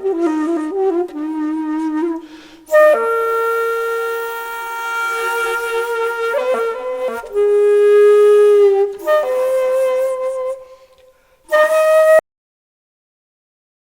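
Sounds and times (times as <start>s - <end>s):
flute-like wind instrument: 0.0s - 12.2s.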